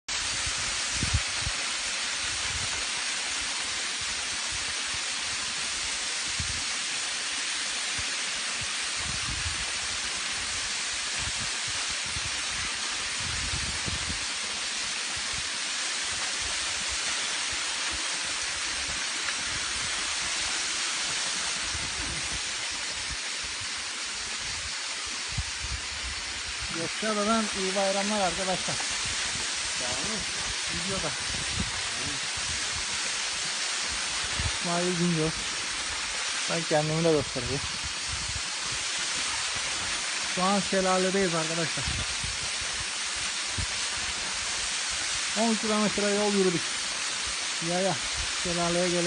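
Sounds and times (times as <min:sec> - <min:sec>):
waterfall rushing: 0:00.1 - 0:49.0.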